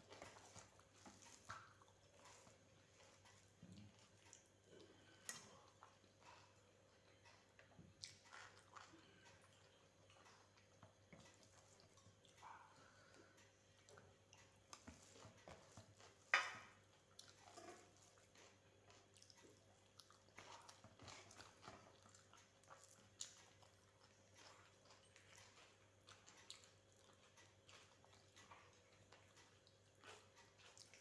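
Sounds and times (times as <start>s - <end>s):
person chewing rice: 0.0s - 31.0s.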